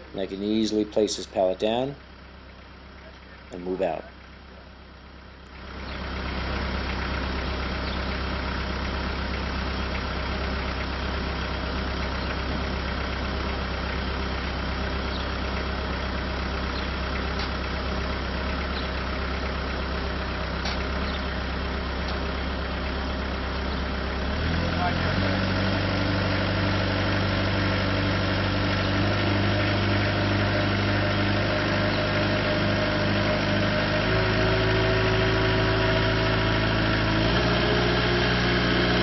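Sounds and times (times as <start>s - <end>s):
diesel engine droning: 0.0s - 39.0s.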